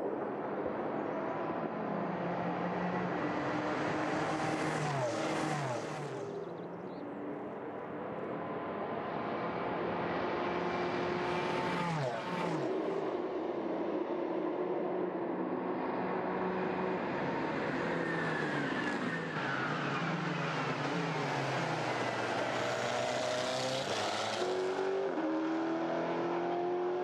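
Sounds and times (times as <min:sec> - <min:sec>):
race car engines droning: 0:00.0 - 0:27.0
race cars passing by: 0:00.0 - 0:27.0.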